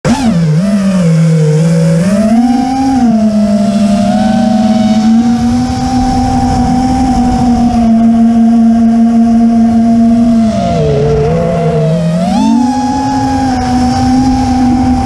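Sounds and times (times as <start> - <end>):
drone motors whining: 0.1 - 15.0.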